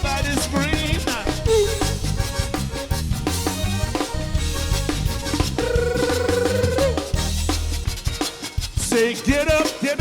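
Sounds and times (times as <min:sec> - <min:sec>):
bass line: 0:00.0 - 0:08.0
drum kit: 0:00.0 - 0:10.0
live band dance groove: 0:00.0 - 0:10.0.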